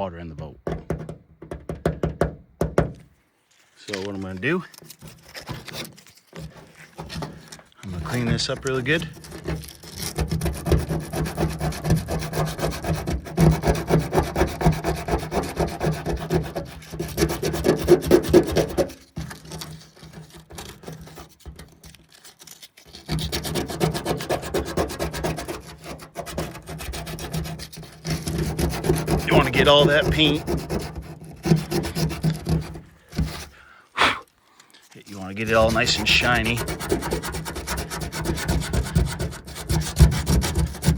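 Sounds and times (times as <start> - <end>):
hand sanding metal: 3.8 - 33.6, 35.0 - 40.9.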